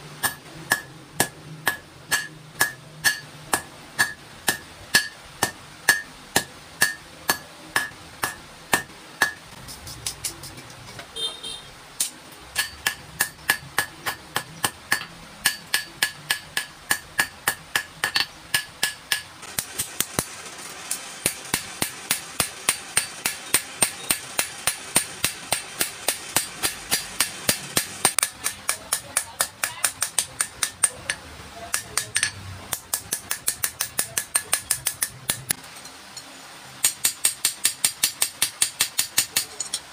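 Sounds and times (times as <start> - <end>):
hammer striking hot metal on anvil: 0.2 - 9.4, 12.0 - 20.3, 20.9 - 35.6, 36.8 - 39.8.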